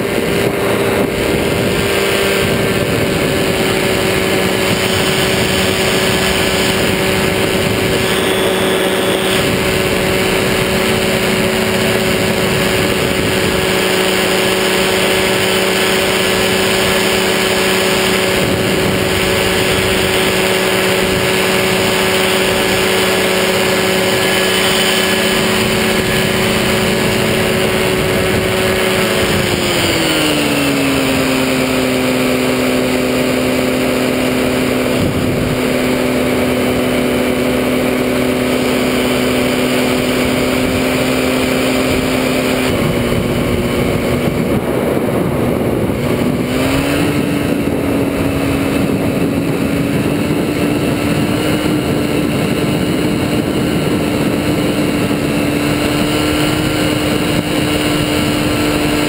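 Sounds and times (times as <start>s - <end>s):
engine and propeller running: 0.0s - 59.0s
wind noise on microphone: 0.0s - 59.0s.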